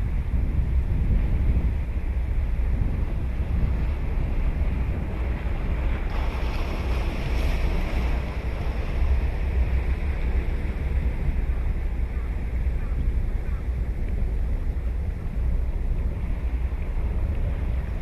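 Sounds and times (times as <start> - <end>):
wind rumbling on microphone: 0.0 - 18.0
ocean waves breaking: 0.8 - 18.0.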